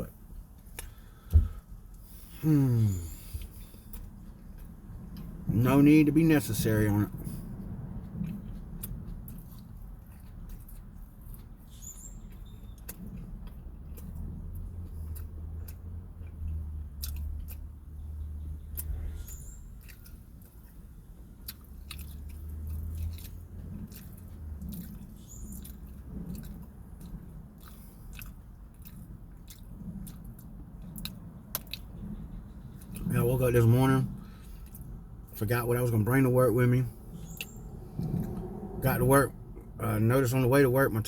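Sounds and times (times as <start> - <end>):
chewing with wet mouth smacks: 0.0 - 35.4, 36.0 - 40.7
low steady hum: 0.0 - 41.0.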